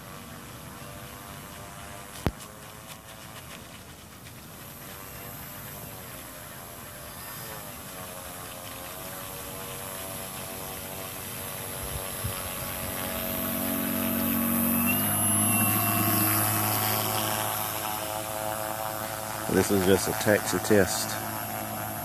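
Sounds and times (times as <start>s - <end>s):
electric motor and propeller whine: 0.0s - 22.0s.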